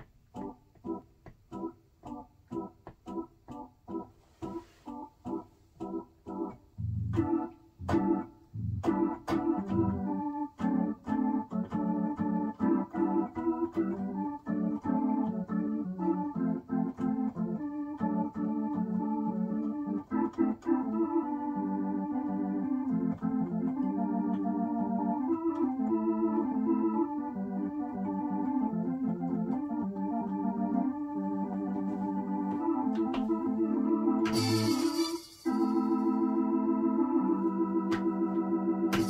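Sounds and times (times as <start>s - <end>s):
organ bass line: 0.3s - 4.1s, 5.0s - 39.0s
drawbar organ chords: 4.9s - 39.0s.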